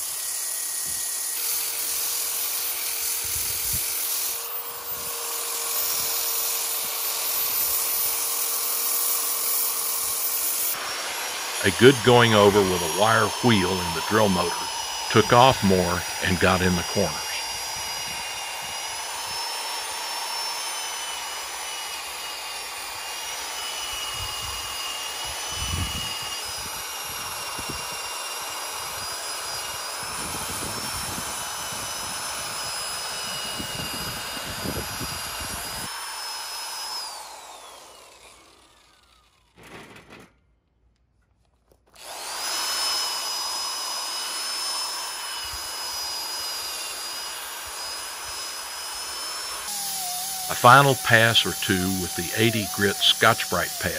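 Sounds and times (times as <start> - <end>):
electric drill motor whine: 0.0 - 39.6, 41.9 - 53.9.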